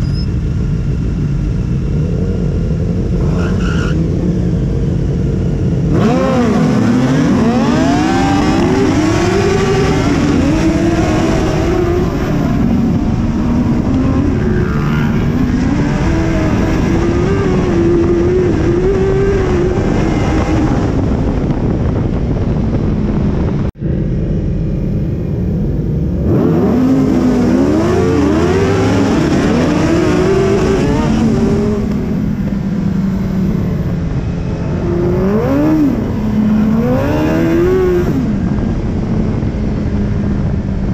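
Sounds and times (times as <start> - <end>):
motorcycle engine revving: 0.0 - 40.9
wind rushing: 0.4 - 40.9.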